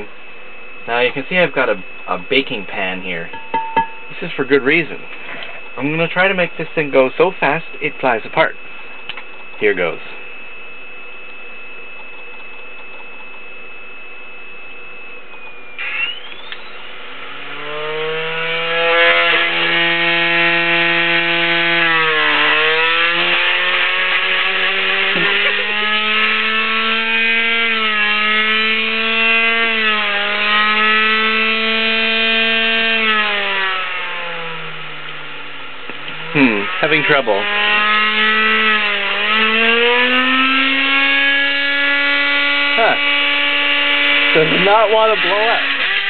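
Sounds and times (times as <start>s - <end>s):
disc drive motor whining: 0.0s - 46.0s.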